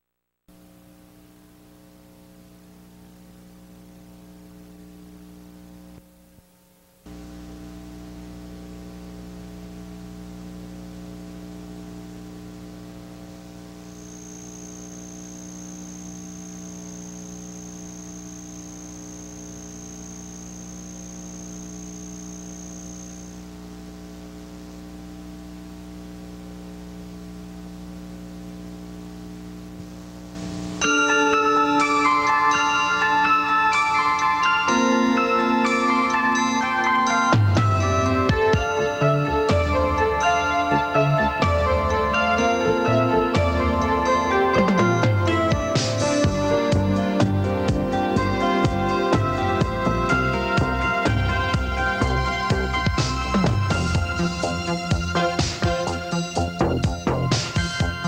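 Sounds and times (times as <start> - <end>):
buzzy mains hum: 0.0 - 58.0.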